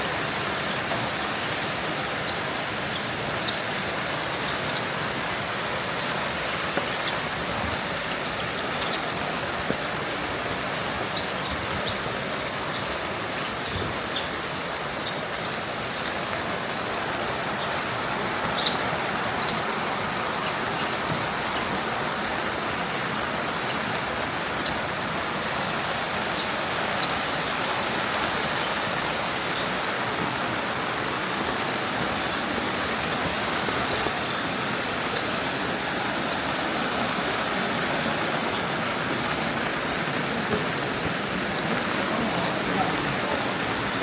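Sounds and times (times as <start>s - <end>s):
rushing water: 0.0s - 44.0s.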